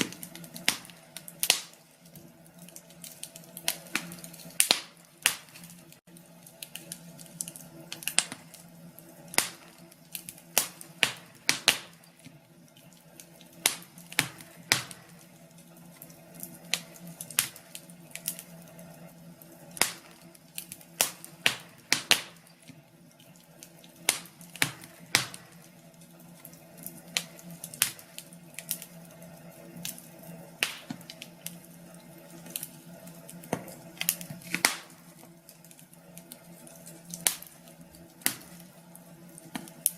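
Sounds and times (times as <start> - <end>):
faint steady hum: 0.0 - 39.9
fire crackling and popping: 0.0 - 39.9.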